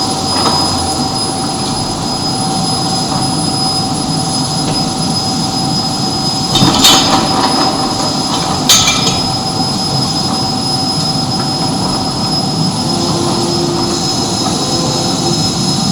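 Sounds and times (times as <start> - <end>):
forge rushing noise: 0.0 - 15.9
steady whining tones: 0.0 - 15.9.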